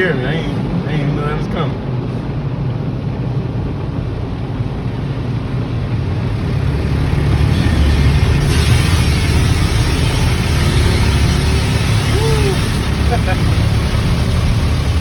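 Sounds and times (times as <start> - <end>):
car wash rushing rumble: 0.0 - 15.0.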